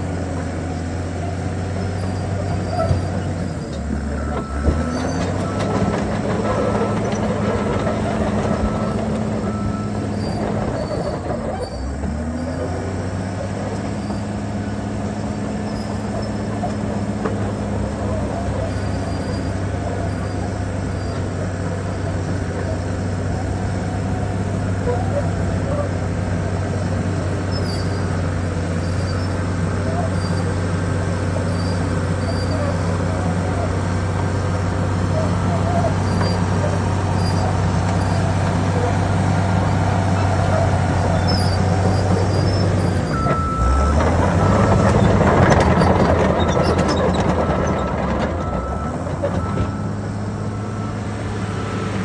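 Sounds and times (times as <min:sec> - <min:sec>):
diesel engine running under load: 0:00.0 - 0:52.0
steel tracks clanking and squealing: 0:01.9 - 0:13.0, 0:13.7 - 0:14.5, 0:15.2 - 0:24.1, 0:27.3 - 0:34.2, 0:34.8 - 0:51.0.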